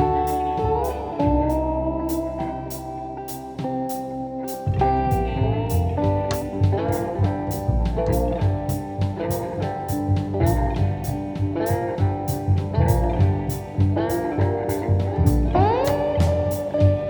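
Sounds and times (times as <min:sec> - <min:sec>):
guitar music with drums and bass: 0:00.0 - 0:17.0.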